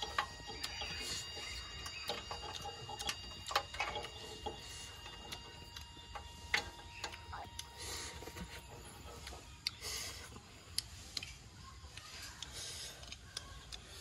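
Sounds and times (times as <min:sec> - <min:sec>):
clicks and crackles roasting: 0:00.0 - 0:14.0.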